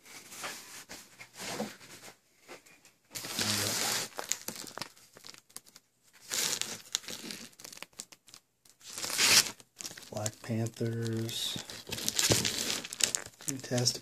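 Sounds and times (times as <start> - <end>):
rustling and crinkling handling: 0.0 - 14.0.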